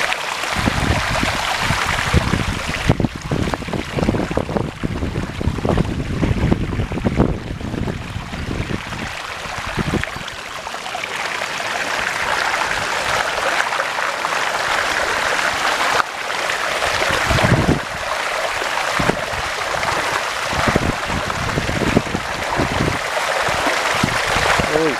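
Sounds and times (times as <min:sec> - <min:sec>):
floodwater rushing and splashing: 0:00.0 - 0:24.9.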